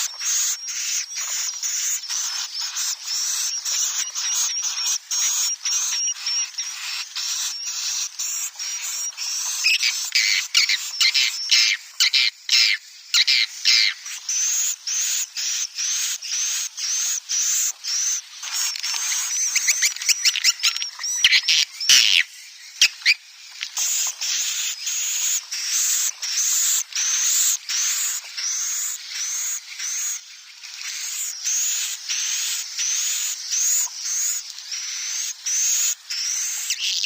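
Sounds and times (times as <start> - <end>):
swiftlet chirping twitters: 0.0 - 23.2, 23.8 - 30.2, 30.8 - 37.0.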